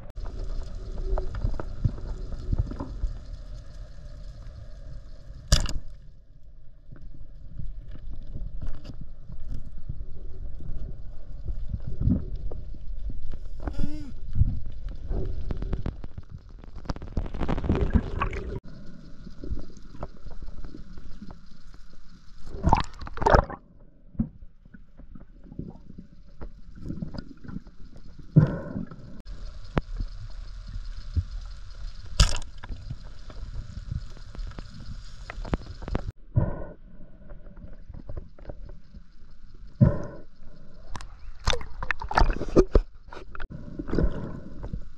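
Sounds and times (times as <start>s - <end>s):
underwater rumble and gurgling: 0.0s - 44.9s.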